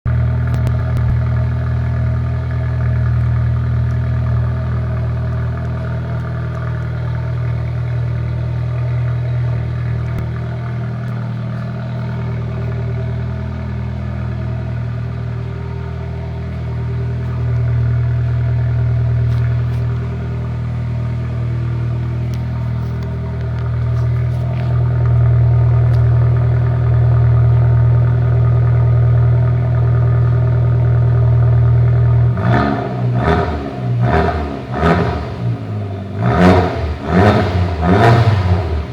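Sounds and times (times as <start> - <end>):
car exhaust idling drone: 0.0 - 38.9.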